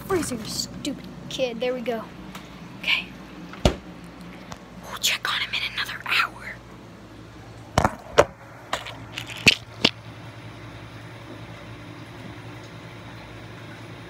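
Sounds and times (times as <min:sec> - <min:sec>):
refrigerator hum: 0:00.0 - 0:14.0.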